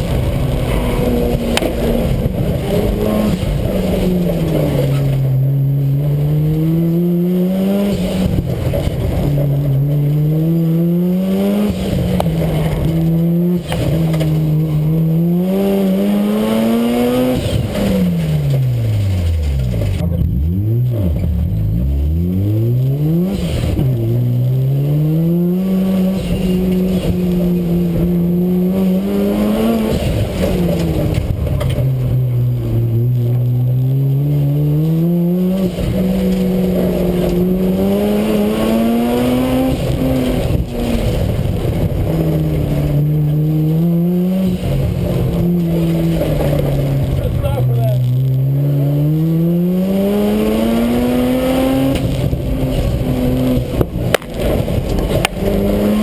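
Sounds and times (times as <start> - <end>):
rotary engine revving: 0.0 - 56.0.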